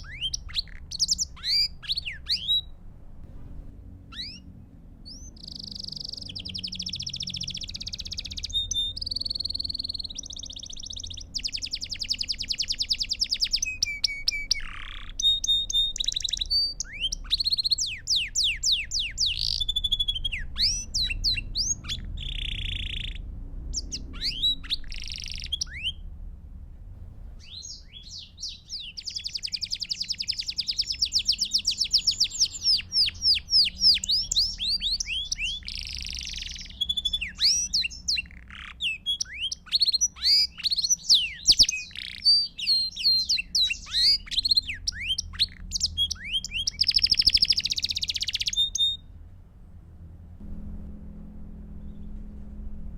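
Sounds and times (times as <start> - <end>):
canary singing trills: 0.0 - 2.9, 4.0 - 26.1, 27.4 - 49.1
faint low hum: 0.0 - 39.4, 43.6 - 52.9.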